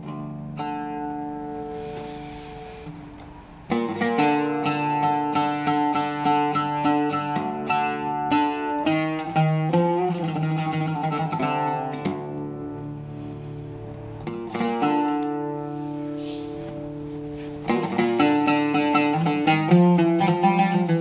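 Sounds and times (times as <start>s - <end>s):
oud plucked with a pick: 0.0s - 21.0s.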